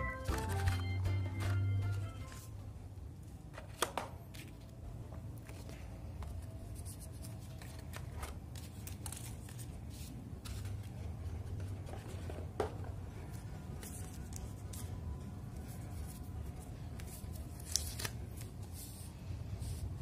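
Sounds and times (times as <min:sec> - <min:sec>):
paper and cardboard rustling: 0:00.1 - 0:02.6, 0:05.4 - 0:20.0.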